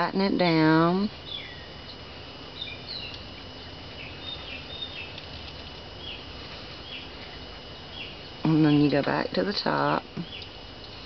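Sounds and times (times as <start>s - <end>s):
low background hum: 0.0s - 11.0s
small birds chirping: 1.1s - 11.0s.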